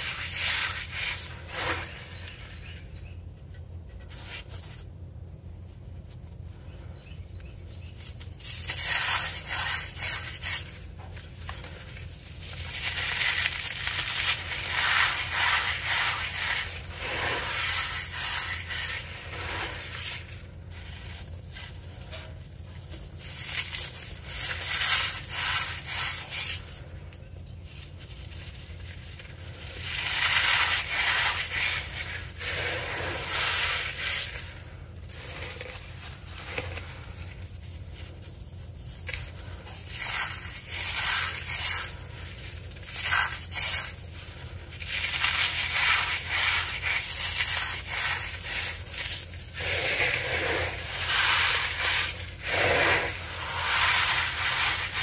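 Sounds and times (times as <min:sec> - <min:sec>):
cornstarch crunching by hand: 0:08.2 - 0:21.8, 0:23.1 - 0:26.9, 0:28.0 - 0:55.0.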